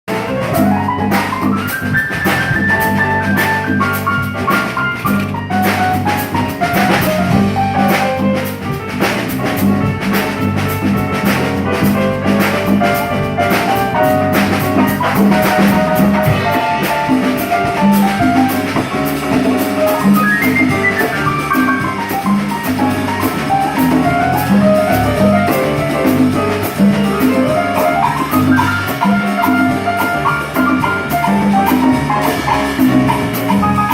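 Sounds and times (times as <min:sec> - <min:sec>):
drum kit beat: 0:00.1 - 0:33.9
live band playing: 0:00.1 - 0:33.9
sliding melody: 0:00.1 - 0:33.9.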